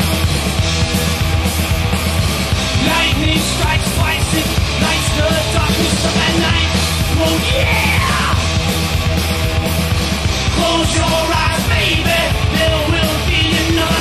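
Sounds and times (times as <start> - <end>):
heavy metal band music: 0.0 - 14.0.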